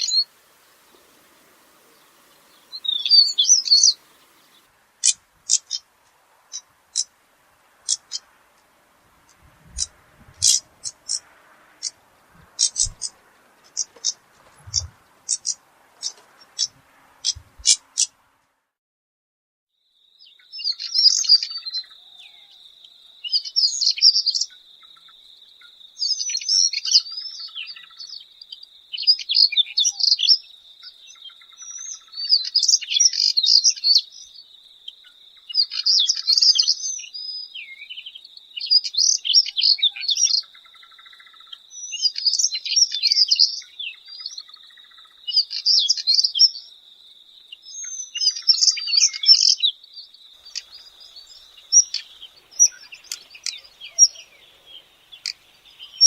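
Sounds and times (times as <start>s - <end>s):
bird twittering song: 0.0s - 7.2s, 7.8s - 8.4s, 9.2s - 18.2s, 20.0s - 56.0s.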